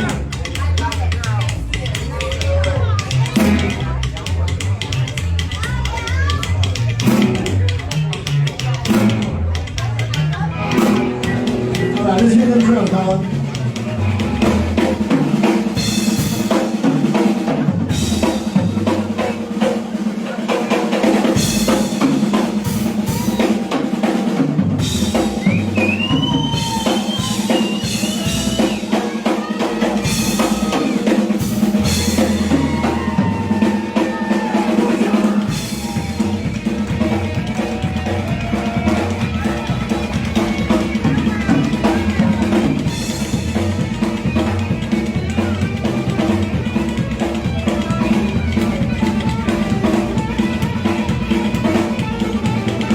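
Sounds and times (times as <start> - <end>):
bass line: 0.0 - 19.6, 21.1 - 52.9
drum kit playing: 0.0 - 52.9
electric guitar with bent notes: 0.0 - 52.9.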